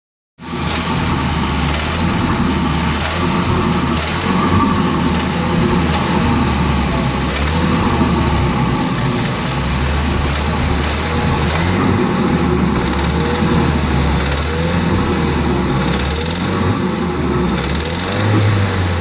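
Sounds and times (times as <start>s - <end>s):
car engine running: 0.4s - 19.0s
engine knocking: 0.4s - 19.0s.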